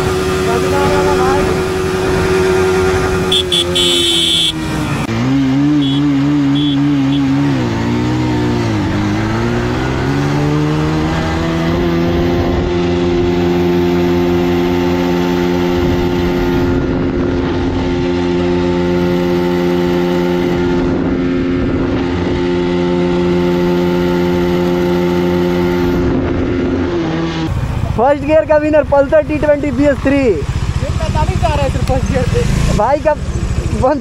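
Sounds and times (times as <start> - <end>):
motorcycle engine revving hard: 0.0 - 28.0, 28.8 - 34.0.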